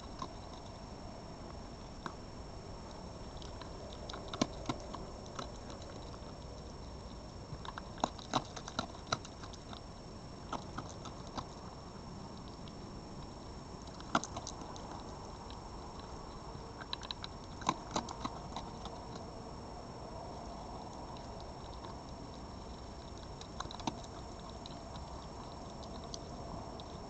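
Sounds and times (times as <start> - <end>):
animal crunching food: 0.0 - 27.0
steady hiss: 0.0 - 27.0.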